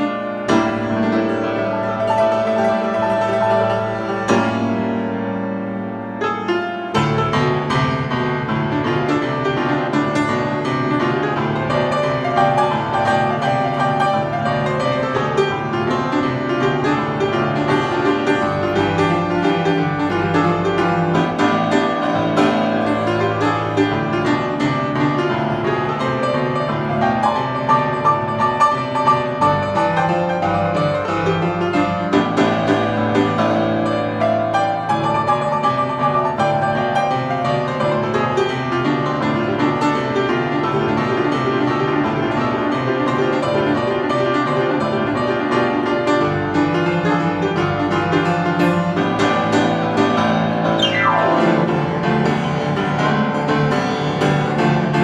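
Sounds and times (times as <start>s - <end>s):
solo grand piano: 0.0s - 55.0s.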